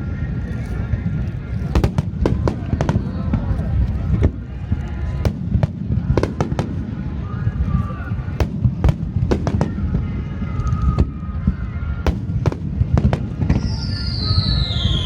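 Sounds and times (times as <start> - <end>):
faint spectator voices: 0.0 - 13.6
firework cracks and bangs: 1.5 - 15.0.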